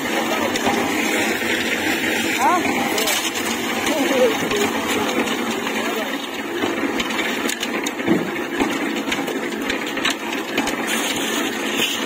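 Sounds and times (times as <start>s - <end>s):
concrete mixer running: 0.0s - 12.0s.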